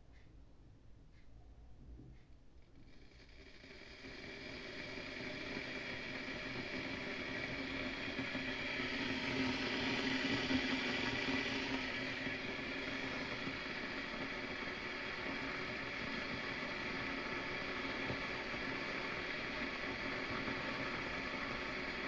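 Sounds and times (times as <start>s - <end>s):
machine whirring and humming: 2.1s - 22.0s.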